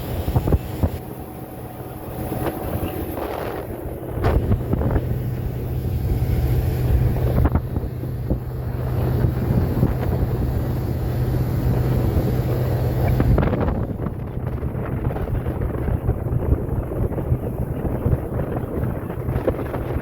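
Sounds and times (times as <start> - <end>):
boat engine humming: 0.0 - 20.0
wind buffeting microphone: 0.0 - 20.0.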